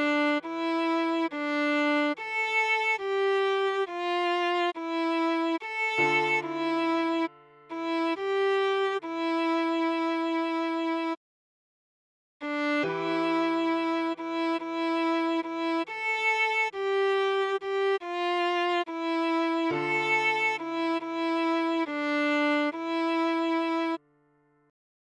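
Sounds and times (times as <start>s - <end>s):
viola playing a melody: 0.0s - 11.2s, 12.4s - 24.1s.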